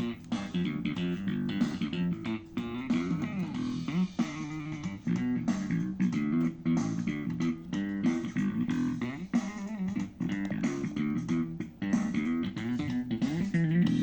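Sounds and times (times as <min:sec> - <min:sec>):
guitar music with bass line: 0:00.0 - 0:14.0.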